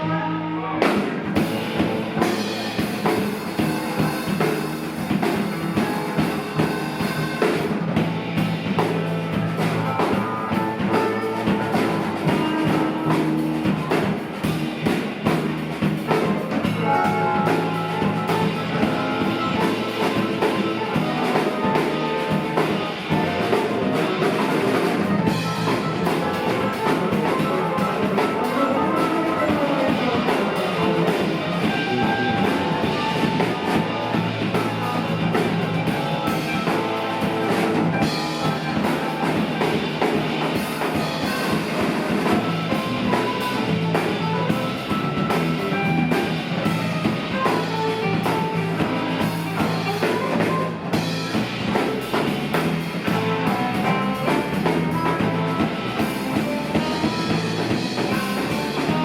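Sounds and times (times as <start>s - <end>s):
bass guitar: 0.0s - 59.0s
electric guitar: 0.0s - 59.0s
drum kit beat: 0.8s - 59.0s.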